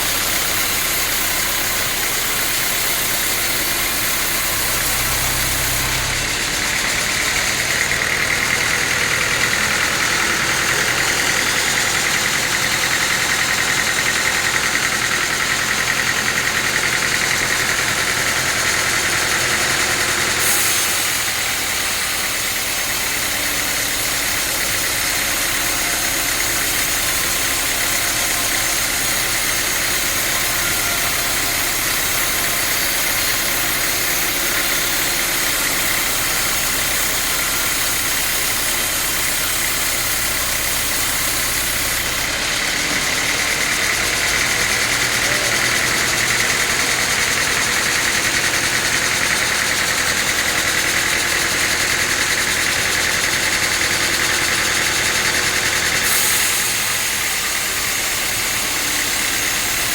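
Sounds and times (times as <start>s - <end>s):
saw blade whining through wood: 0.0s - 59.9s
sawmill saw running: 0.0s - 59.9s.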